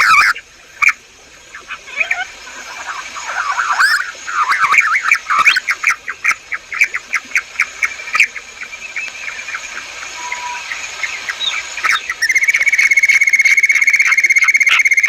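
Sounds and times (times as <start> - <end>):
quail calling: 0.0 - 1.0, 1.6 - 8.5, 10.2 - 15.0.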